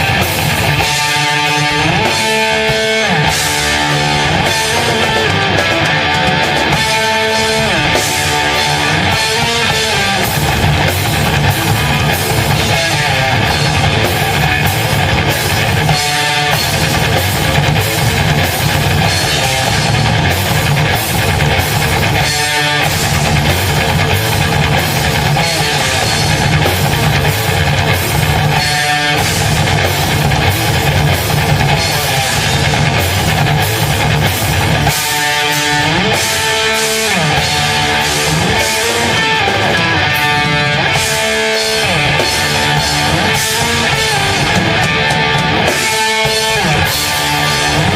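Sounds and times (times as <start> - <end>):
guitar notes ringing alone: 0.0 - 26.3, 26.9 - 47.9
heavy metal band playing: 0.0 - 47.9.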